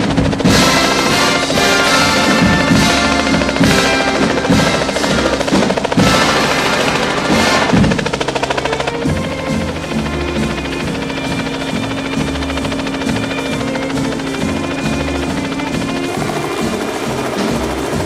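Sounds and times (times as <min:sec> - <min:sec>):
instrumental music with drums: 0:00.0 - 0:18.0.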